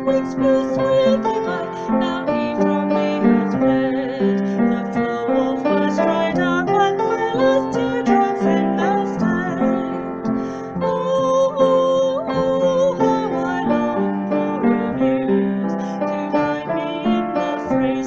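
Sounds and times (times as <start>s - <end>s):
piano melody over chords: 0.0s - 18.0s.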